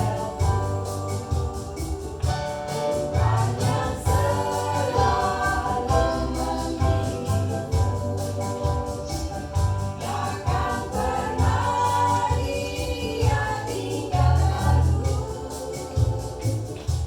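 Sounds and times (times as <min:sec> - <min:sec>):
band with beat and bass: 0:00.0 - 0:17.0
choir singing gospel song: 0:00.0 - 0:17.0.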